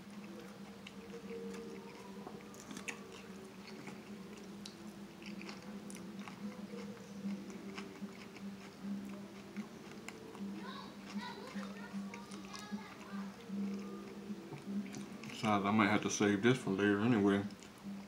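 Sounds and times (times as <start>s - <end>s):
chewing food: 0.0s - 16.6s, 17.3s - 18.0s.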